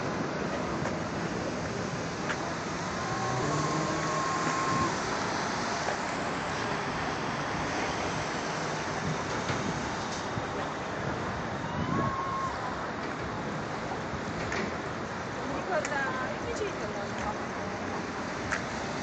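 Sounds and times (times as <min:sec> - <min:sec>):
outdoor traffic rumble: 0:00.0 - 0:19.0.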